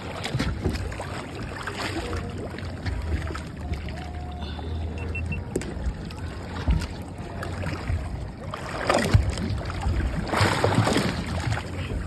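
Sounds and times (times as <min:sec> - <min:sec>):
water splashing against boat: 0:00.0 - 0:12.0.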